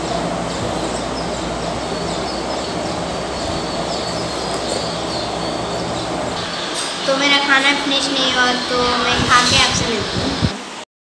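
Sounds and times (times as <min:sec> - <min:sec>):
low even hum: 0:00.0 - 0:10.8.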